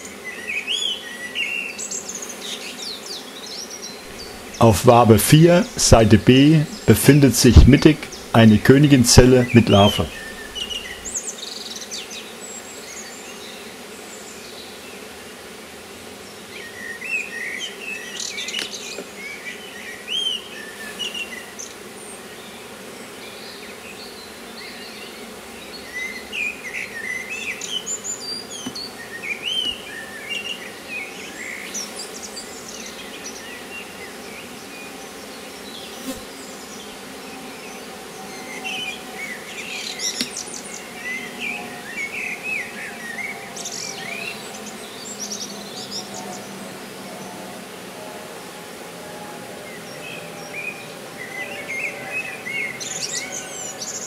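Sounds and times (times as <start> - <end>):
birds chirping: 0.0 - 15.6, 16.2 - 47.5, 49.5 - 54.0
honeybees humming: 0.0 - 54.0.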